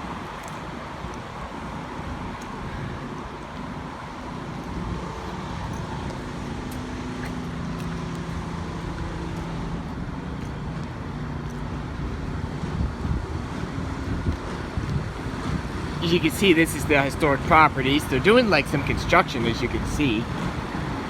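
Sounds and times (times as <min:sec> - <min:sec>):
street traffic: 0:00.0 - 0:21.0
vehicle engine humming: 0:00.0 - 0:21.0
wind buffeting microphone: 0:00.0 - 0:21.0.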